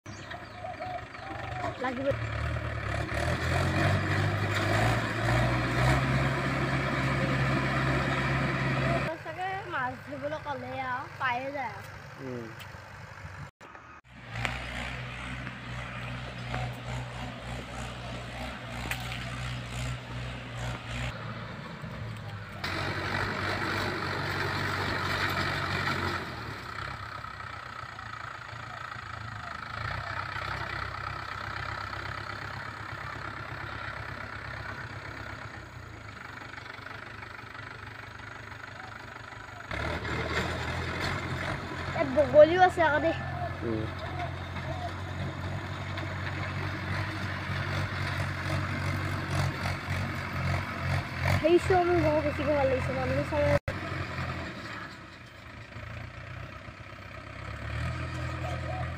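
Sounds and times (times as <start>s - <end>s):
tractor engine running: 0.1s - 58.9s.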